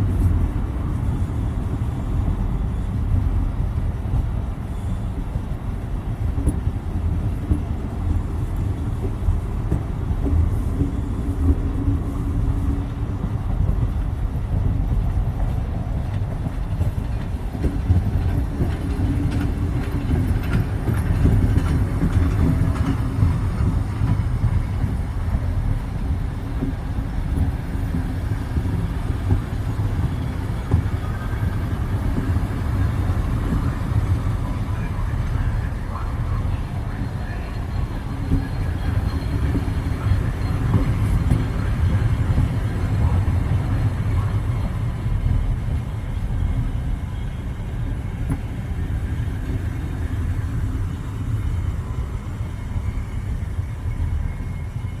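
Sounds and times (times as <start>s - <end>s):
train rumbling past: 0.0s - 55.0s
train wheels clicking: 0.0s - 55.0s.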